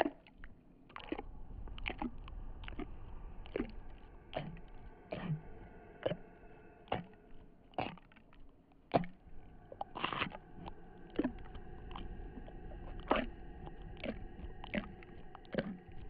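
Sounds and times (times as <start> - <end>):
low ambient drone: 0.0 - 16.0.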